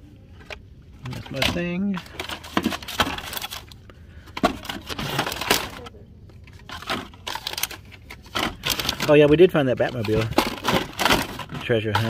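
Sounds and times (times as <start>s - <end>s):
plastic packaging clattering: 0.4s - 12.0s.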